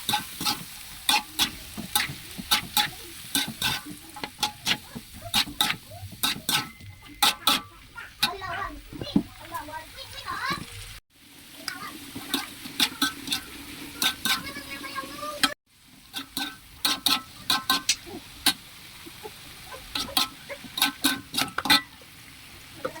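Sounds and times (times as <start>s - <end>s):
spatula knocking and scraping pan: 0.0s - 10.8s, 11.7s - 18.6s, 19.8s - 22.0s
beans sizzling in a pan: 0.0s - 23.0s.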